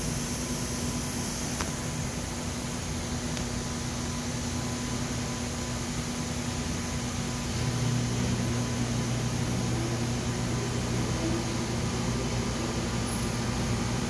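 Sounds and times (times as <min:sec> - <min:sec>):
electrical hum: 0:00.0 - 0:14.0
fan noise: 0:00.0 - 0:14.0.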